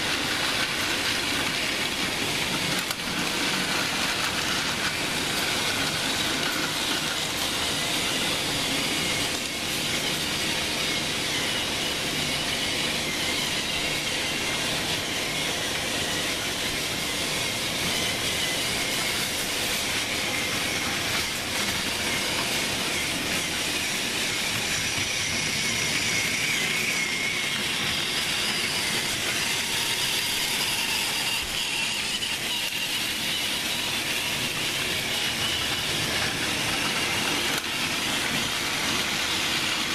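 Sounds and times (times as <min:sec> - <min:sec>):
toy train motors whirring: 0:00.0 - 0:39.9.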